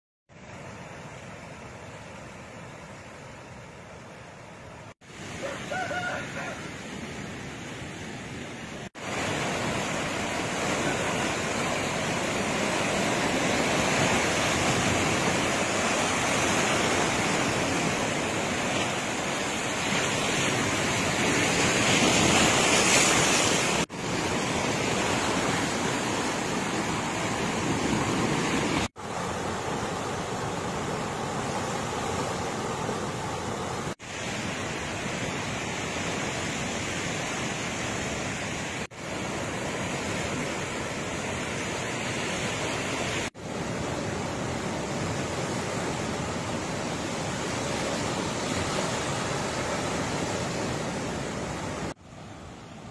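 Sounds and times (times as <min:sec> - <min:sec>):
rough sea surf breaking: 0:05.0 - 0:52.9.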